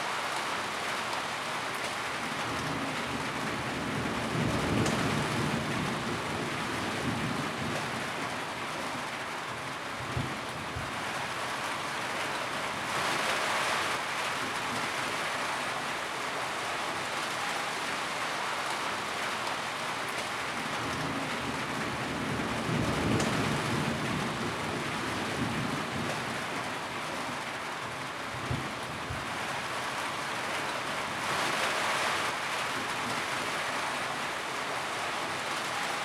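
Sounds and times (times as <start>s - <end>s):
rain on a tin roof: 0.0s - 36.0s.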